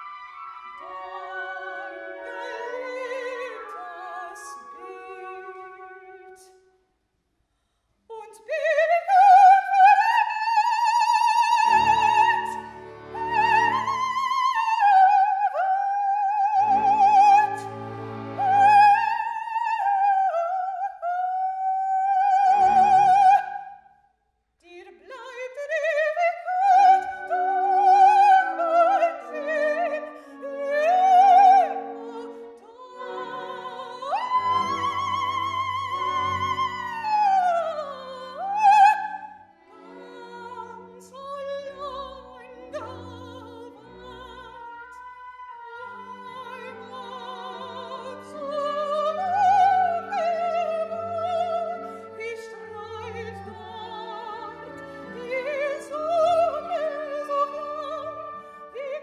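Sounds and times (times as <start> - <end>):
soprano singing operatic aria: 0.0 - 6.6, 8.1 - 23.8, 24.6 - 59.0.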